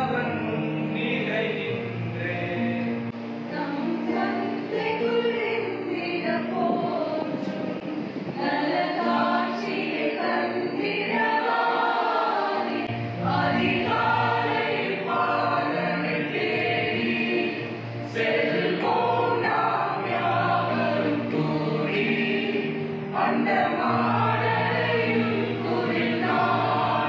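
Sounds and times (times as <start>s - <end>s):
choir singing a carol: 0.0s - 27.0s.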